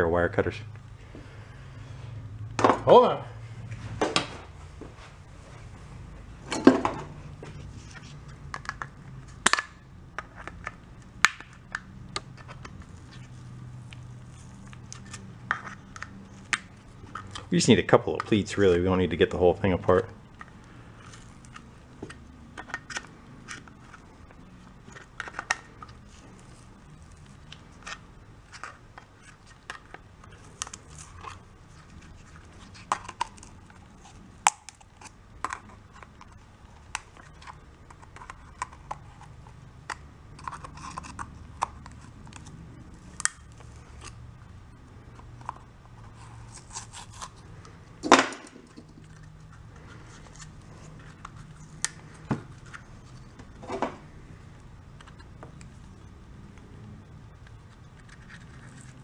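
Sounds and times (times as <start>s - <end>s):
clicks and crinkles: 7.5s - 17.5s, 20.3s - 59.0s.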